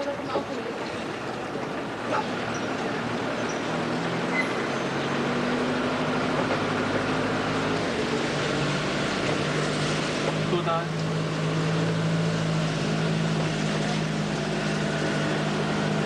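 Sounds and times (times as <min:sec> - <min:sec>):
low engine hum: 0:00.0 - 0:16.0
road noise inside car: 0:00.0 - 0:16.0.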